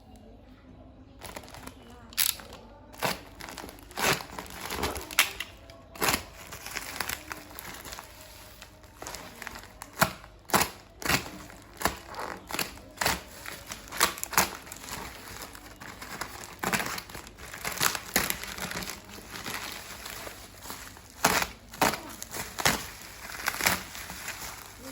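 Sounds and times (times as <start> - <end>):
plastic and paper crinkling: 1.2 - 24.9.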